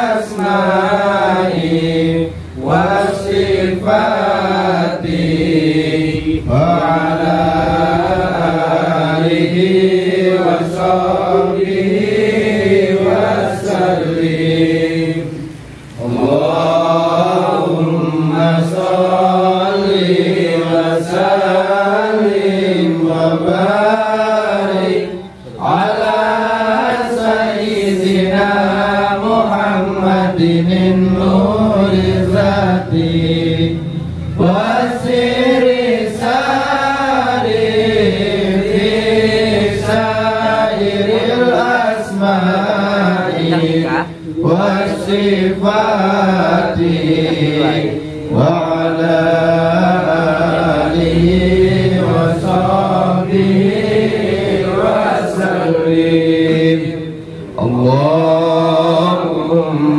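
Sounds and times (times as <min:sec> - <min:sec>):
devotional chanting: 0:00.0 - 0:59.9.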